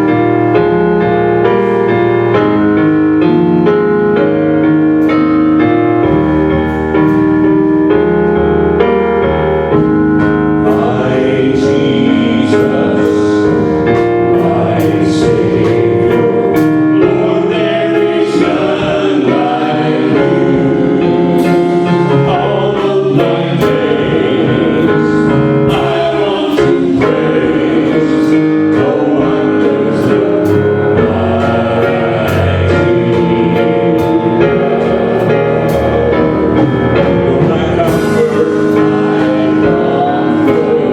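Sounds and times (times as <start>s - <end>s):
gospel choir singing: 0.0s - 40.9s
piano accompaniment: 0.0s - 40.9s.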